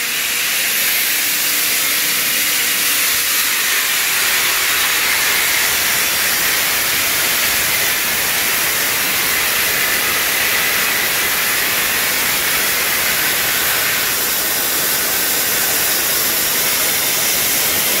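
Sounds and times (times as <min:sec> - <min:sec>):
high-pressure waterjet hissing: 0:00.0 - 0:18.0.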